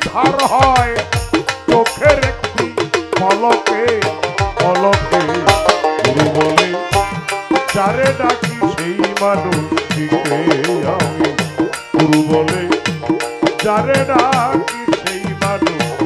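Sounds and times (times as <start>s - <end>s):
hand drum and rattling percussion: 0.0s - 16.0s.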